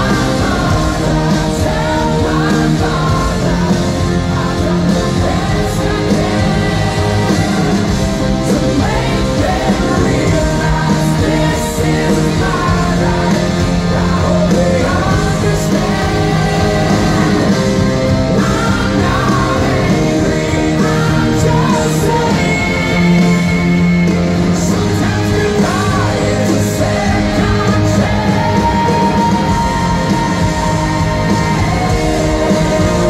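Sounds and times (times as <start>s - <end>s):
live rock band: 0.0s - 33.0s
person singing: 0.0s - 33.0s.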